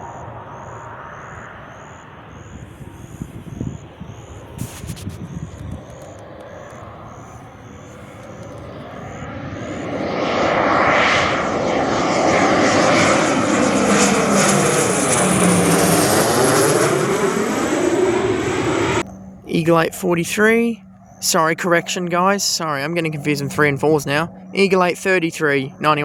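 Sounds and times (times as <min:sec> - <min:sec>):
high engine whine: 0:00.0 - 0:26.0
military aircraft flying past: 0:00.0 - 0:26.0.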